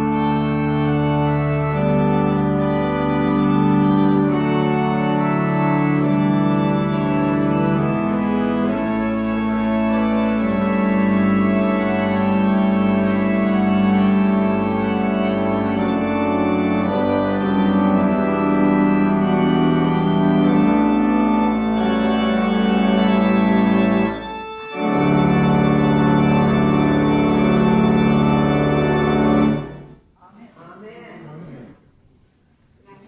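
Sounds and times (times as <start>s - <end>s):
pipe organ playing chords: 0.0s - 30.0s.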